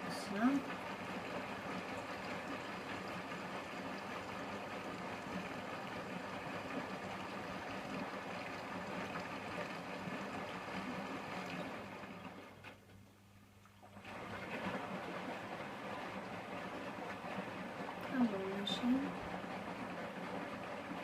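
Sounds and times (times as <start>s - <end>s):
washing machine running: 0.0s - 21.0s
water swishing: 0.0s - 21.0s.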